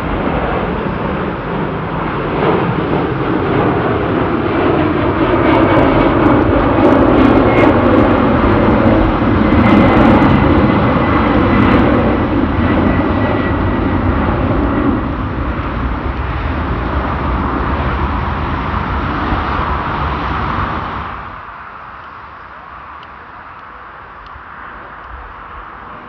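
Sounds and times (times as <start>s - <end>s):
faint high jet whine: 0.0s - 26.0s
jet engines roaring: 0.0s - 26.0s.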